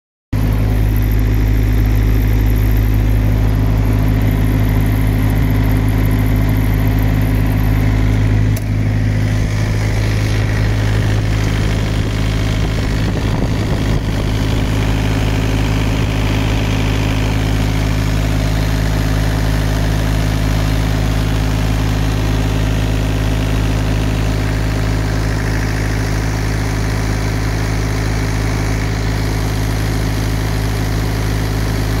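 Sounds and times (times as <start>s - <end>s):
small diesel engine running: 0.3s - 32.0s.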